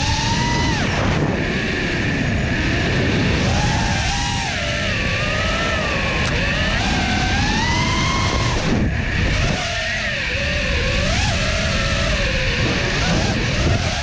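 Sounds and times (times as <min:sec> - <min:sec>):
drone motors whining: 0:00.0 - 0:14.0
low rush: 0:00.0 - 0:14.0.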